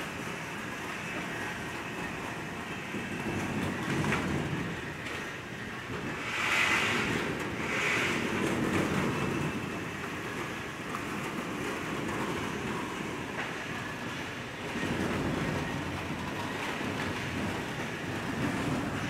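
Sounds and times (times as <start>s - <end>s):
washing machine mechanical rumble: 0.0s - 19.0s.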